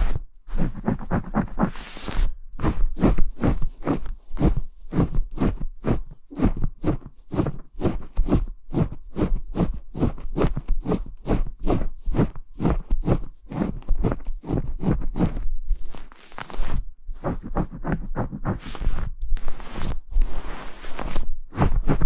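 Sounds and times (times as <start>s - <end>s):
brush rubbing back and forth: 0.0s - 22.0s.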